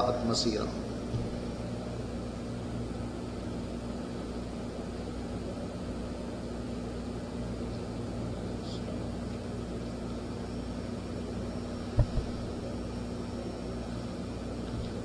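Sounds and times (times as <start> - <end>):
air conditioner hum and hiss: 0.0 - 15.0.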